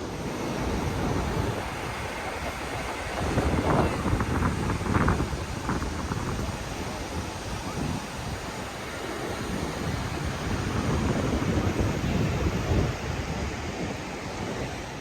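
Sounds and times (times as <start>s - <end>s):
ocean surf washing ashore: 0.0s - 15.0s
wind gusting on microphone: 0.0s - 15.0s.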